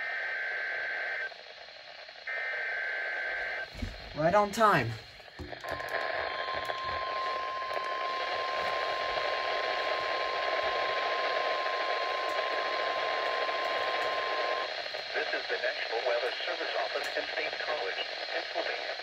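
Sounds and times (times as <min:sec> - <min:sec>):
steady alarm tone from radio speaker: 0:00.0 - 0:18.6
radio static hiss: 0:00.0 - 0:19.0.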